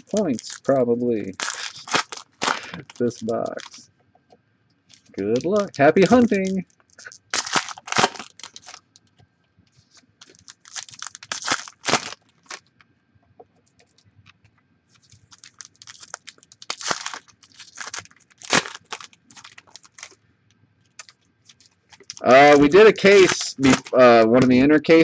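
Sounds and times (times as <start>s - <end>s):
trading cards rustling and snapping: 0.0s - 3.8s, 4.9s - 12.8s, 15.0s - 20.2s, 20.9s - 24.6s.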